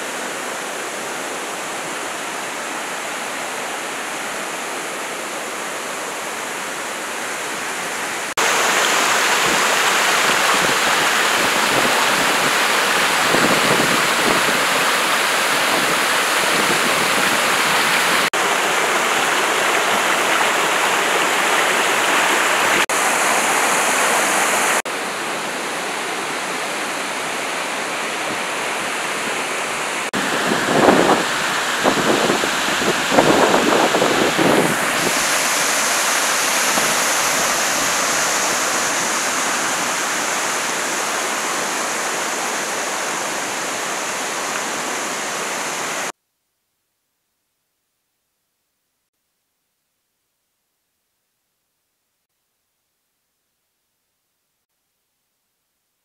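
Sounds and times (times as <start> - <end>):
waterfall rushing: 0.0 - 46.1.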